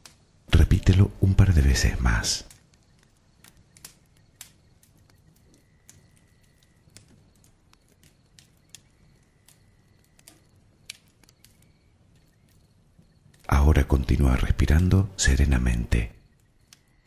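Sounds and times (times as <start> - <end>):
fire pops and snaps: 0.0 - 17.0.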